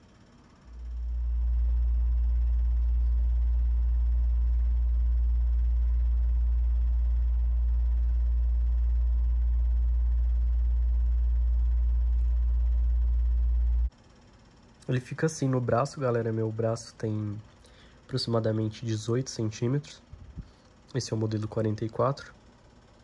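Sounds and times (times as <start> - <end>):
loud low hum: 0.0 - 21.9.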